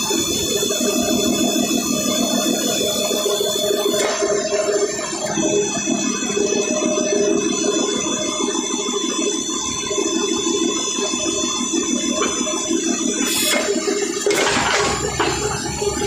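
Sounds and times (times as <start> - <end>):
machine pulsing with high whine: 0.0 - 16.0.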